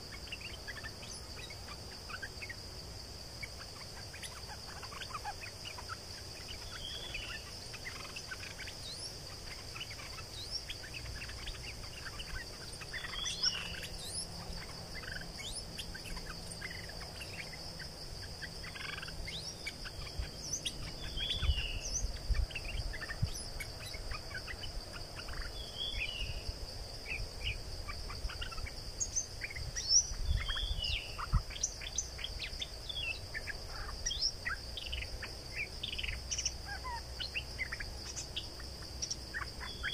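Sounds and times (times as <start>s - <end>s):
birds chirping: 0.0s - 39.9s
high insect drone: 0.0s - 39.9s.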